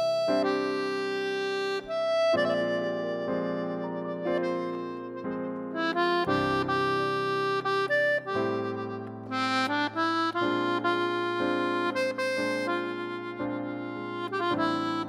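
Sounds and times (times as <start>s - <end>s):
instrumental music: 0.0s - 15.0s.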